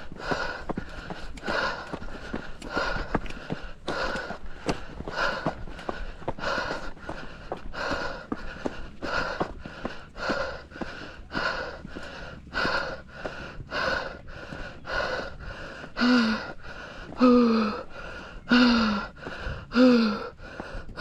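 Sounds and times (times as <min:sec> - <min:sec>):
footsteps on dirt trail: 0:00.0 - 0:21.0
runner breathing hard: 0:00.0 - 0:21.0.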